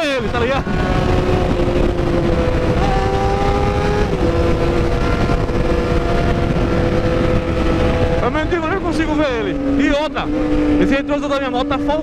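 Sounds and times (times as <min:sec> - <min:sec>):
motorcycle engine cruising: 0:00.0 - 0:12.0
wind rushing over microphone: 0:00.0 - 0:12.0.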